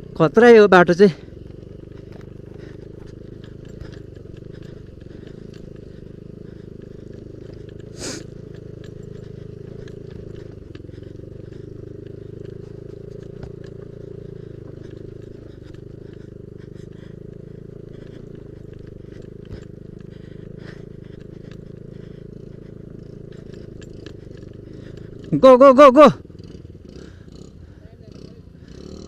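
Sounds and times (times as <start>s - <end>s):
scooter engine running: 0.0s - 29.0s.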